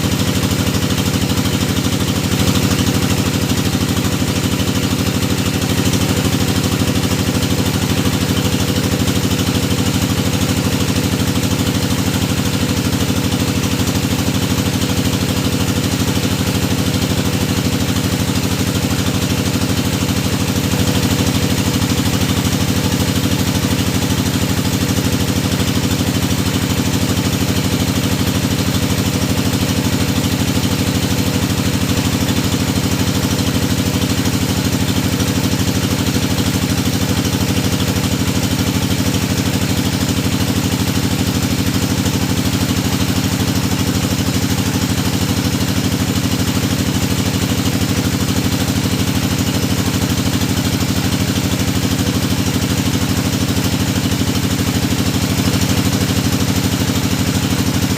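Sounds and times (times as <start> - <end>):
drilling machine engine running: 0.0 - 57.9.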